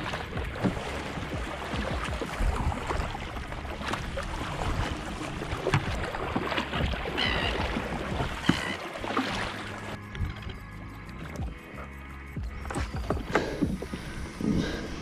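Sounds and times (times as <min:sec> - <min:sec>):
paddle splashing in water: 0:00.0 - 0:11.5, 0:12.6 - 0:15.0.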